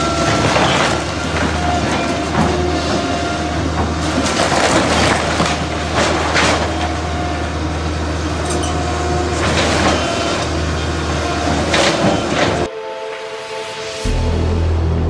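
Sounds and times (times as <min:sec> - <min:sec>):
wood and brick walls crunching: 0:00.0 - 0:12.6
excavator diesel engine drone: 0:00.0 - 0:15.0.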